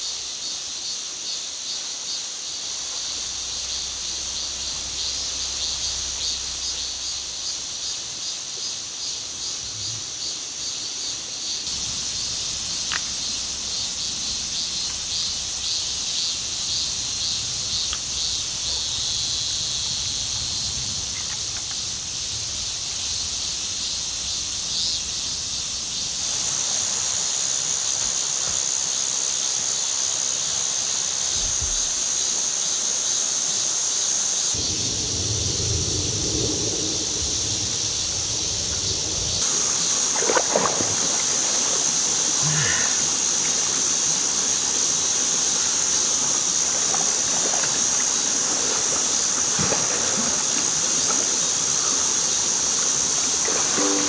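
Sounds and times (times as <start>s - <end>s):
high insect drone: 0.0s - 54.0s
insects chirping in pulses: 0.0s - 54.0s
steady background hiss: 0.0s - 54.0s.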